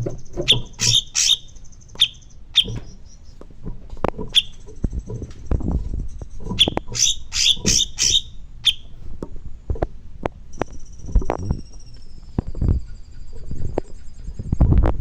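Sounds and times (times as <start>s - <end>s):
songbird chirping: 0.0s - 3.5s, 4.2s - 9.0s, 10.5s - 14.6s.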